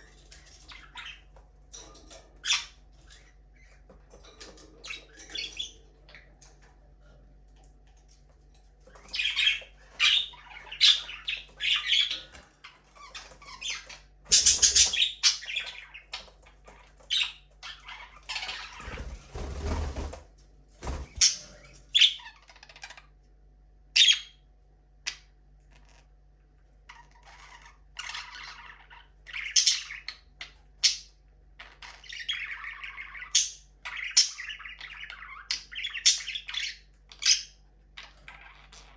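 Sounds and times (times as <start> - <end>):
budgerigars chirping and squawking: 0.0 - 6.8, 8.8 - 20.2, 20.8 - 23.1, 24.0 - 24.4, 26.8 - 38.9.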